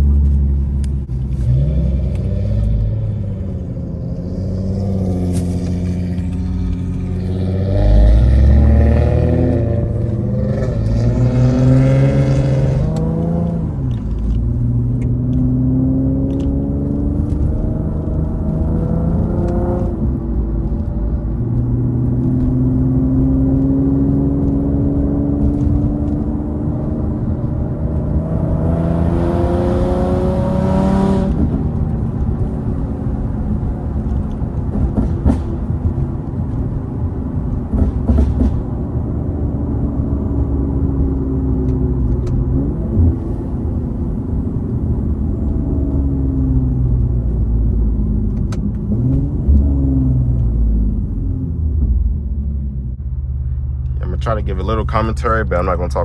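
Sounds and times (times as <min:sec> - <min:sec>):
car engine with loud exhaust: 0:00.0 - 0:56.0.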